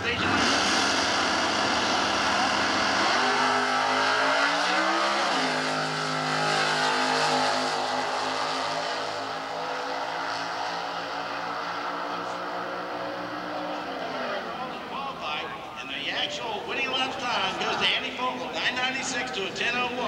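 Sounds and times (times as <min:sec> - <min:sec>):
drag car engines at full throttle: 0:00.0 - 0:20.0.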